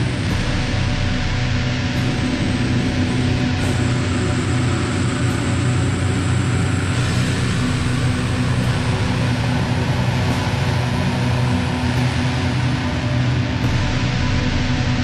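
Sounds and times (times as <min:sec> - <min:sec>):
distorted doom metal drone: 0:00.0 - 0:15.0.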